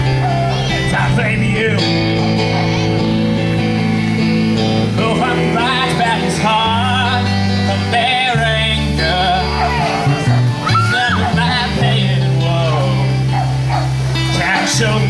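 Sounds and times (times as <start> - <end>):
man singing: 0.0 - 3.4, 4.8 - 15.0
acoustic guitar: 0.0 - 15.0
electric bass: 0.0 - 15.0.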